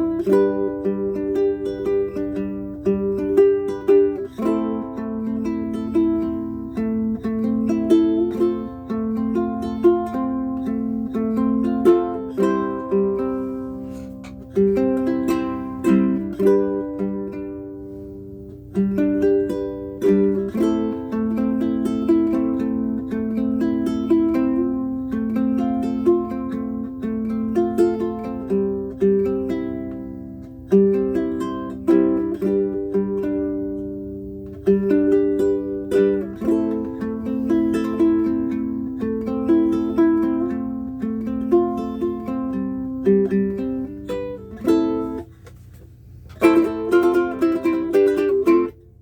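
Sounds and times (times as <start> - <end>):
ukulele plucked chords and notes: 0.0 - 49.0.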